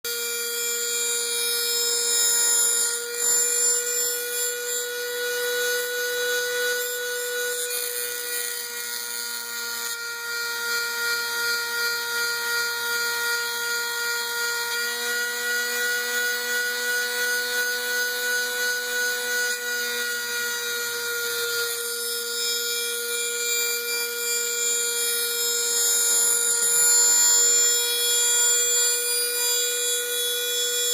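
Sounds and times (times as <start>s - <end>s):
rotary tool whining routing wood: 0.0s - 30.9s.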